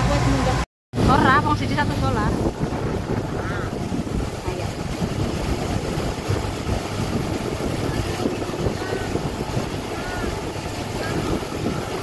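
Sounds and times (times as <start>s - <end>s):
motor boat engine rumble: 0.0s - 12.0s
wind buffeting microphone: 0.1s - 12.0s.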